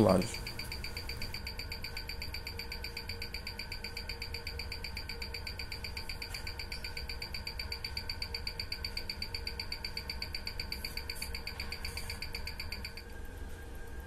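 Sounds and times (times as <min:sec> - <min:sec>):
watch ticking: 0:00.0 - 0:13.0.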